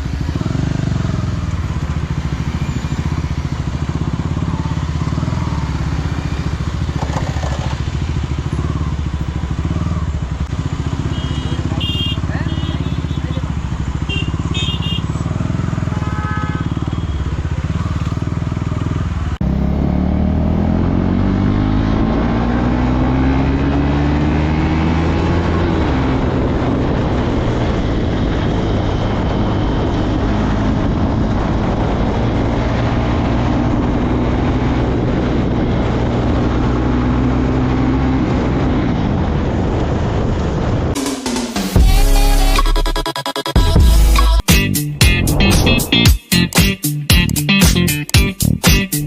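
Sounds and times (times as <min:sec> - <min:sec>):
motorcycle engine accelerating: 0:00.0 - 0:41.8, 0:43.7 - 0:49.0.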